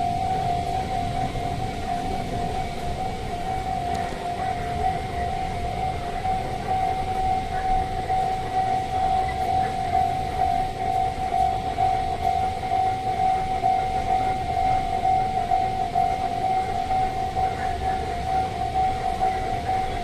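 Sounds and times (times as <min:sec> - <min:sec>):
level crossing alarm ringing: 0:00.0 - 0:20.0.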